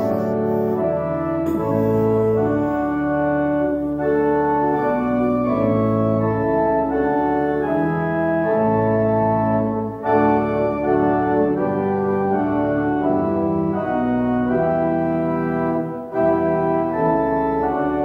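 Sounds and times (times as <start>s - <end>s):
organ playing a hymn: 0.0s - 18.0s.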